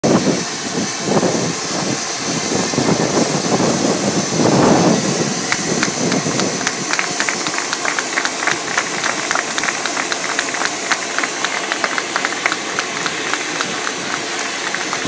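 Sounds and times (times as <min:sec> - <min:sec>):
jet turbine whining: 0:00.1 - 0:15.0.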